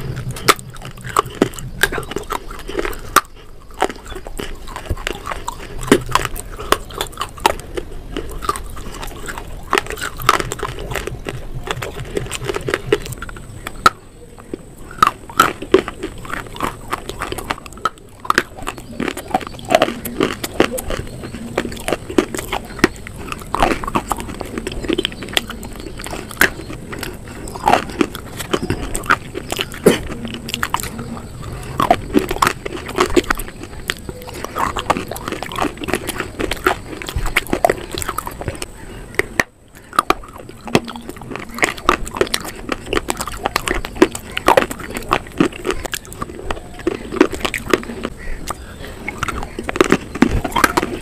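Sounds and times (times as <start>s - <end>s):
crunching and chewing: 0.0s - 51.0s.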